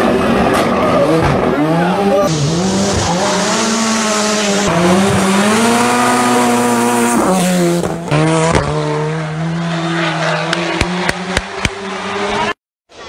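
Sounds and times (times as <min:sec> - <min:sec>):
rally car engine revving: 0:00.0 - 0:12.6.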